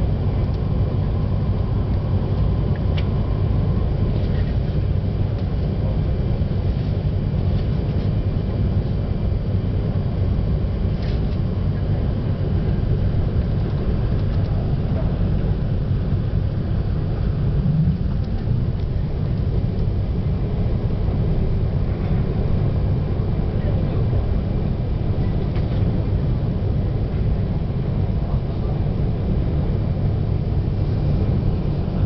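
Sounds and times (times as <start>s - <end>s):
train interior rumble: 0.0s - 32.0s.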